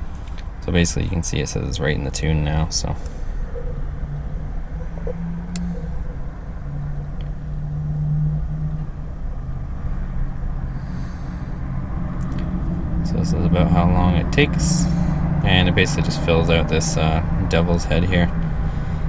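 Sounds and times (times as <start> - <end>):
vehicle rumble and hum: 0.0 - 19.0.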